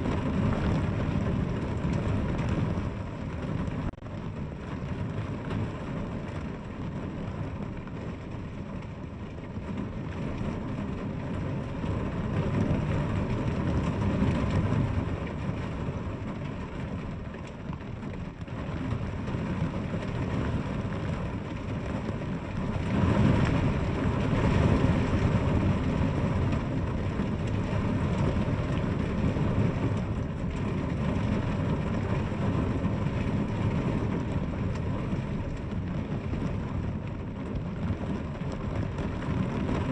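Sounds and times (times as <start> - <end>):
deep rumble: 0.0 - 39.9
heavy rain falling: 0.0 - 39.9.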